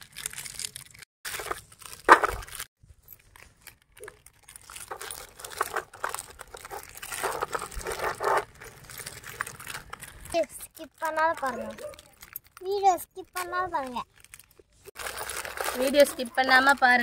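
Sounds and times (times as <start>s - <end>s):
plastic packets crinkling and tearing: 0.0s - 17.0s.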